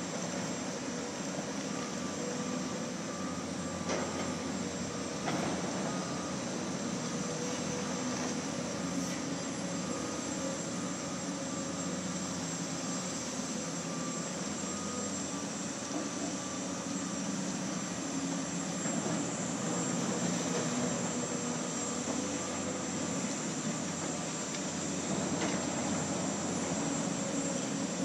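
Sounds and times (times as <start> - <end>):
constant high whine: 0.0 - 28.0
excavator diesel engines running: 0.0 - 28.0.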